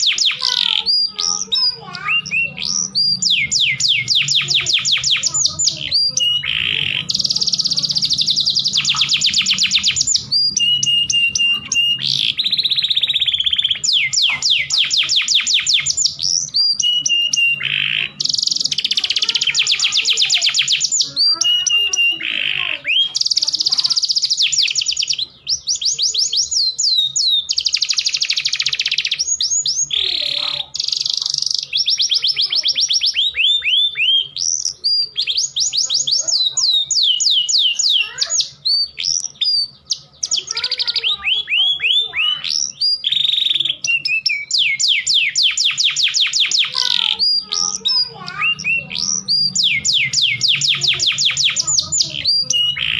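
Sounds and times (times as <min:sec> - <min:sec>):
canary singing trills: 0:00.0 - 0:52.9.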